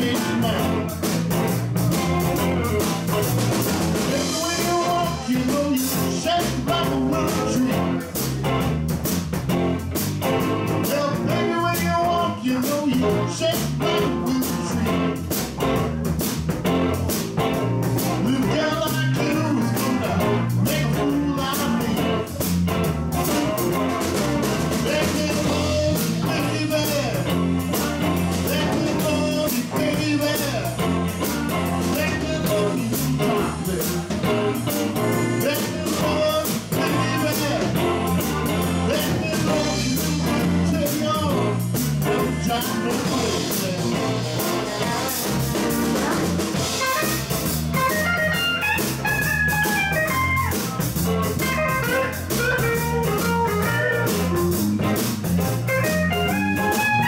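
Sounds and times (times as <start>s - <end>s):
bass guitar: 0.0s - 57.0s
drum kit beat: 0.0s - 57.0s
electric guitars: 0.0s - 57.0s.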